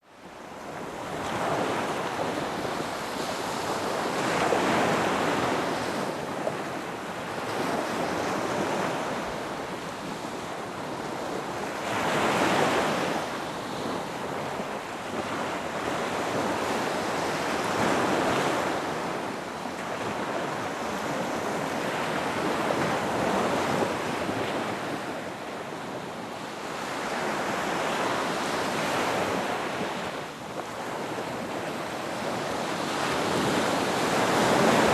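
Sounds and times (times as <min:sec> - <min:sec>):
ocean surf breaking on beach: 0:00.2 - 0:34.9.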